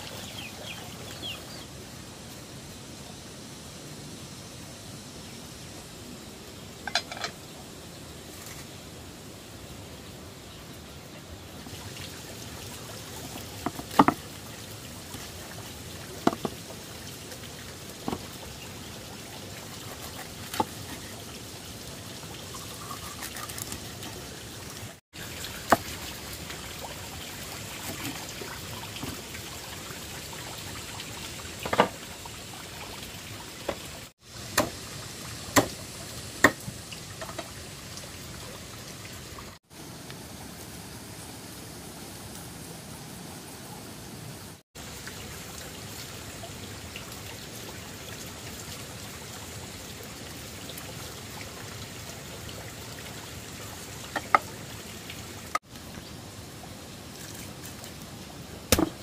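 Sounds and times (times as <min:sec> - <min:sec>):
water pouring and trickling: 0:00.0 - 0:02.8, 0:06.5 - 0:43.5, 0:44.4 - 0:59.0.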